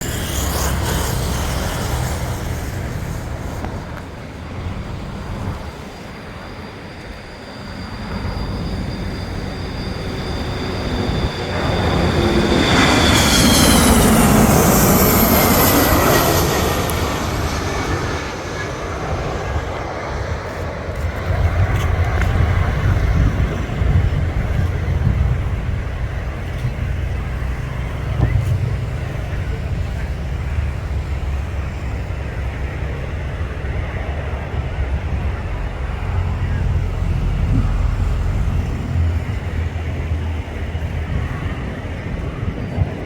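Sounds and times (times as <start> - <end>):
high turbine whine: 0.0 - 43.0
jet engine roar: 0.0 - 43.0.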